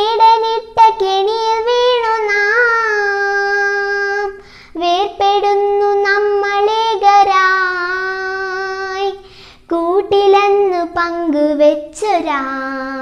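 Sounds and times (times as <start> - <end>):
girl singing unaccompanied: 0.0 - 13.0.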